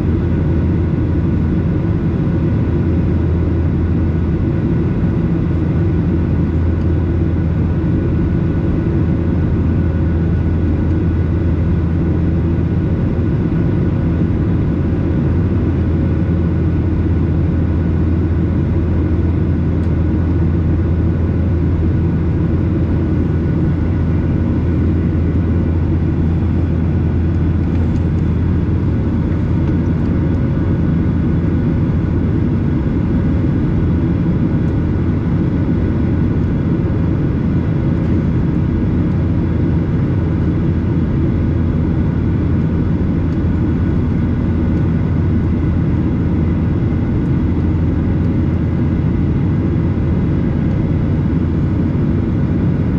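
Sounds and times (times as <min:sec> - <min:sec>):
aircraft cabin engine drone: 0:00.0 - 0:52.9.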